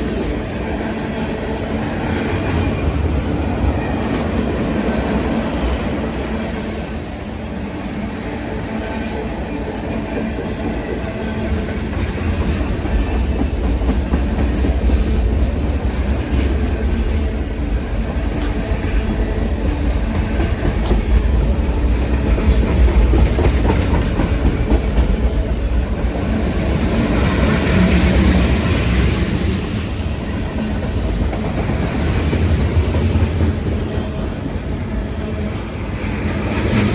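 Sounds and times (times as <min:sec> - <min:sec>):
train rumbling past: 0:00.0 - 0:36.9.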